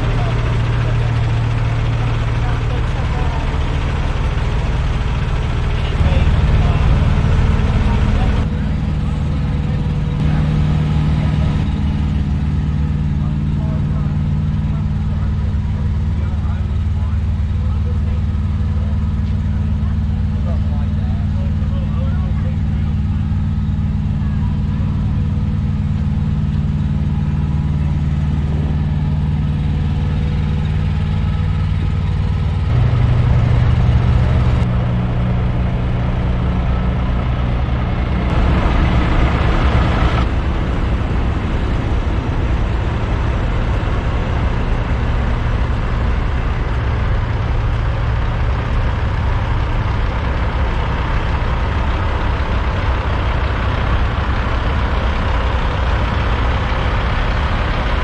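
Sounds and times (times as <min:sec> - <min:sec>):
diesel truck engines idling: 0:00.0 - 0:58.0.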